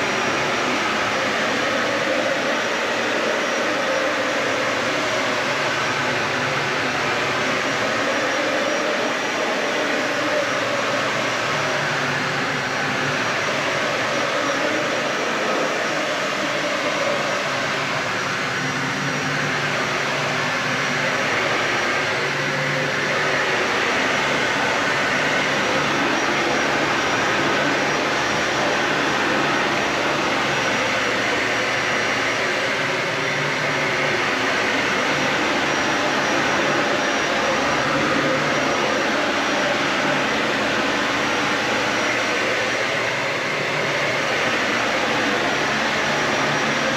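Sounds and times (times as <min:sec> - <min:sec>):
vacuum cleaner running on carpet: 0:00.0 - 0:46.9.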